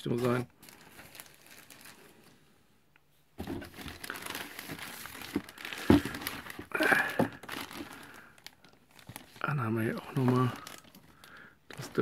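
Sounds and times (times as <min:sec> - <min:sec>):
plastic packaging crinkling: 0:00.0 - 0:02.4, 0:03.4 - 0:12.0.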